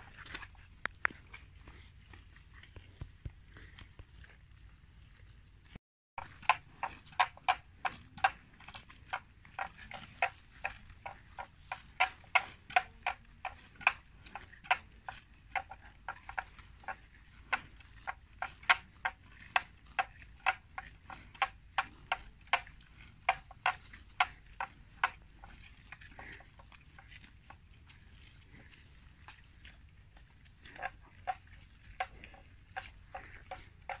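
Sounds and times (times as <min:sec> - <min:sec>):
buffalo tearing grass: 0:00.0 - 0:04.0, 0:06.2 - 0:34.0.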